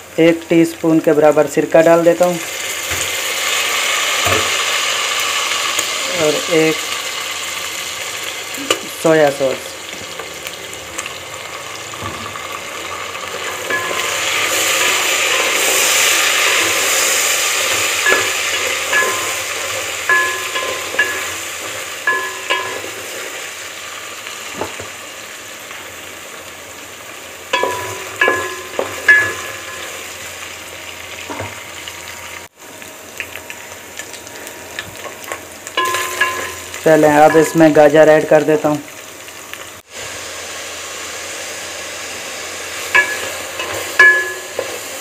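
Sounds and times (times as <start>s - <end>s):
chicken sizzling in pot: 0.0s - 45.0s.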